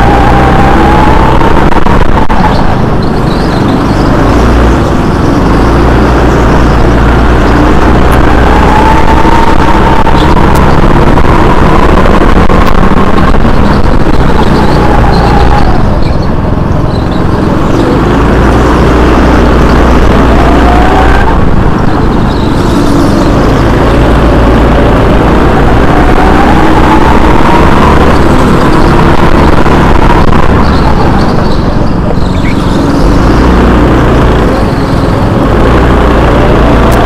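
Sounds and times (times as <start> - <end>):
go-kart engine revving: 0.0 - 37.0.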